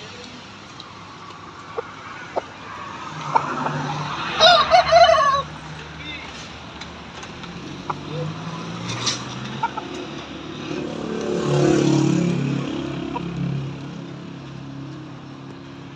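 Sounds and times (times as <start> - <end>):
vehicle engine passing by: 1.5 - 15.3.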